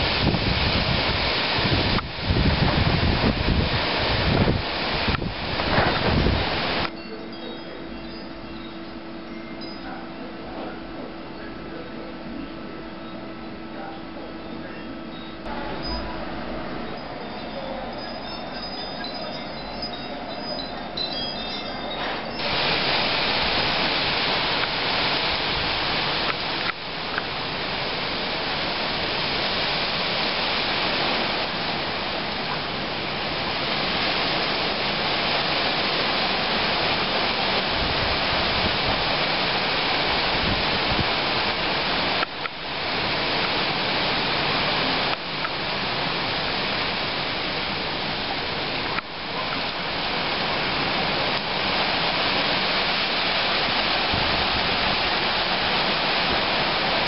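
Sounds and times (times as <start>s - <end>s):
wind rushing through trees: 0.0s - 57.0s.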